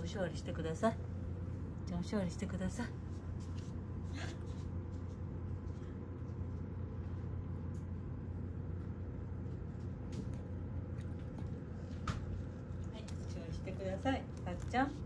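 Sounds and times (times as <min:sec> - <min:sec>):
appliance fan motor hum: 0:00.0 - 0:15.0.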